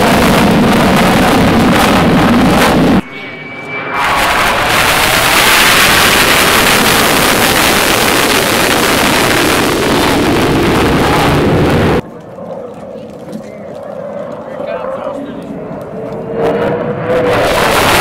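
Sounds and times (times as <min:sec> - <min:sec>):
jet roaring past overhead: 0:00.0 - 0:18.0.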